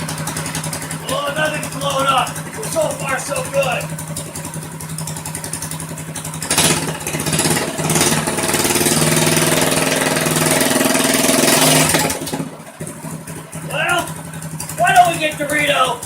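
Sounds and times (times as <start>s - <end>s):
single-cylinder engine revving: 0.0s - 16.0s.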